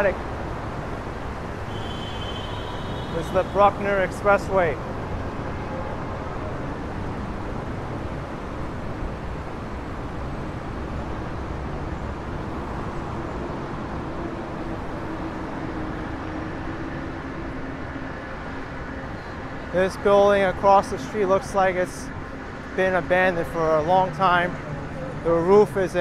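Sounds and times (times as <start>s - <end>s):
heavy road traffic roar: 0.0s - 26.0s.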